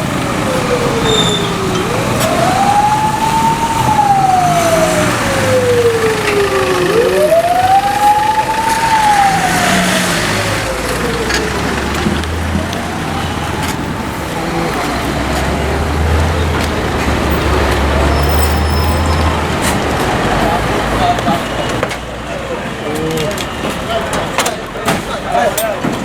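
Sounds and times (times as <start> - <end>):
emergency vehicle siren wailing: 0.0 - 25.6
road traffic: 0.0 - 26.0.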